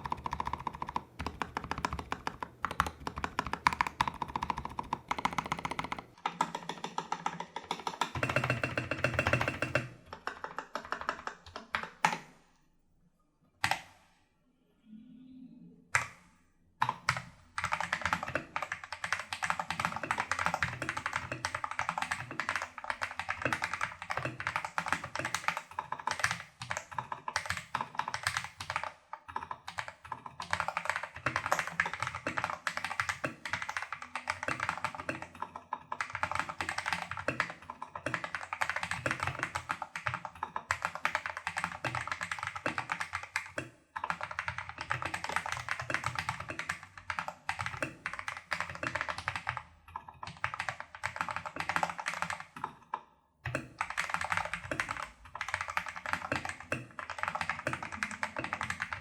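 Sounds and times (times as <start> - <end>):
fast mechanical keyboard typing: 0.0 - 12.2, 16.8 - 52.8, 53.5 - 59.0.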